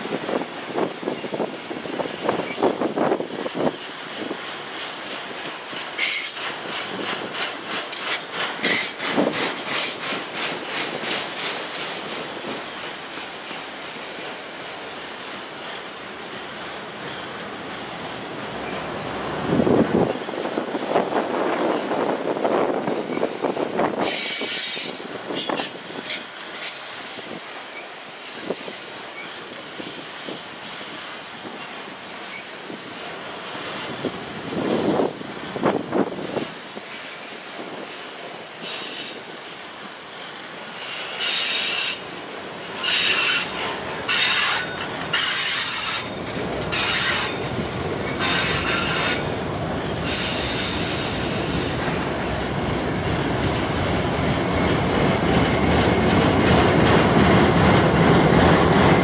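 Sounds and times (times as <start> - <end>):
steel wheels rumbling on rail: 0.0 - 59.0
wheels clicking over rail joints: 0.0 - 59.0.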